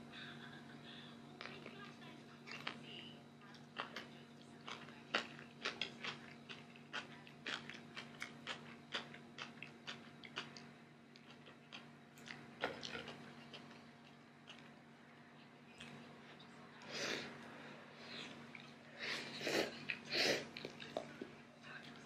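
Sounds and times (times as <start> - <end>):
faint steady hum: 0.0 - 22.0
person chewing noodles: 2.5 - 2.8, 3.7 - 21.3.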